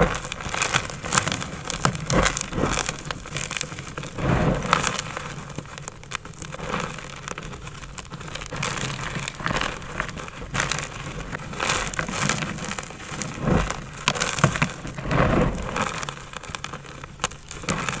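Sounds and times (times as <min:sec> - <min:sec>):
chalk blocks crunching: 0:00.0 - 0:18.0.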